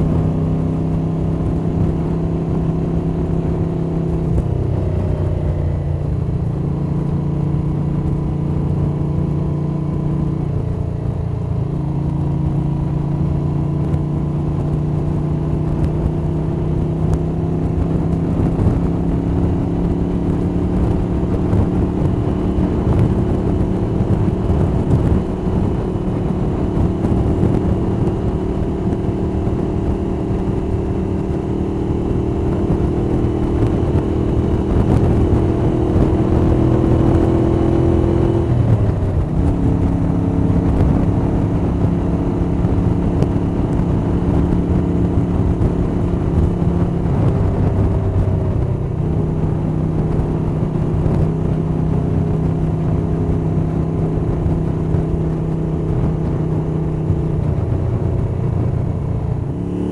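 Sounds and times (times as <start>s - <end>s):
motorcycle engine cruising: 0.0s - 59.9s
wind noise: 0.0s - 59.9s.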